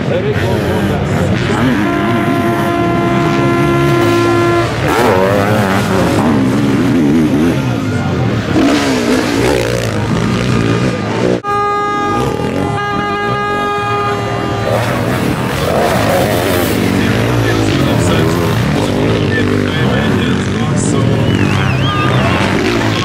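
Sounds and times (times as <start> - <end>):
motocross engines revving: 0.0 - 23.0.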